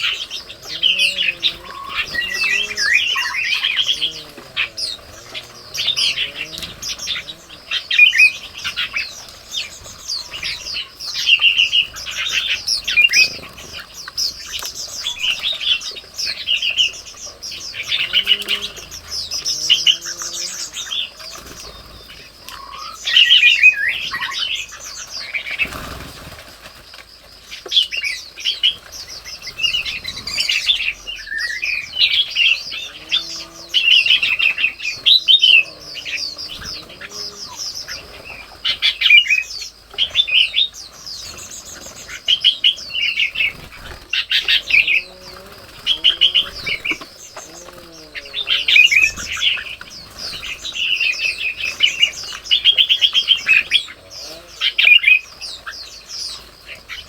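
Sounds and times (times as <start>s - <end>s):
lower wavering bird calls: 0.0s - 26.4s, 27.7s - 57.0s
birds chirping and chattering: 0.0s - 57.0s.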